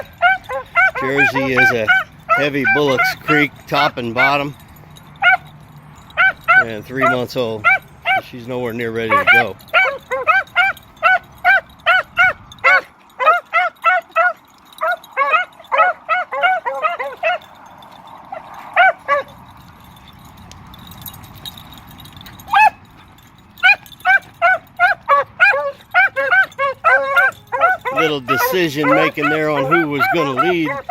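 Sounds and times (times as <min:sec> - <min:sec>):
beagles baying in chop barks: 0:00.0 - 0:30.9.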